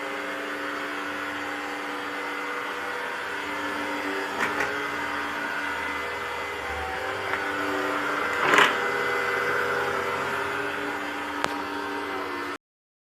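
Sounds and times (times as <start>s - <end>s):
robot vacuum motor whine: 0.0s - 12.6s.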